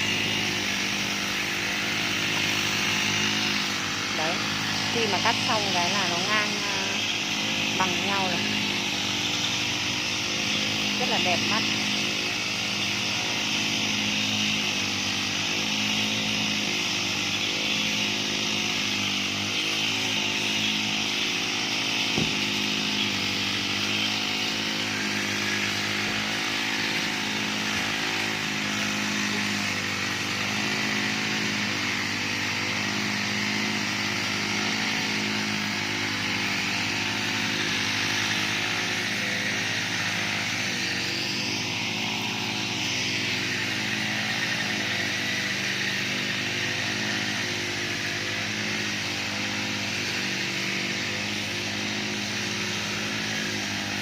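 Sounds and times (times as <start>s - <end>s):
grass cutter engine running: 0.0s - 54.0s.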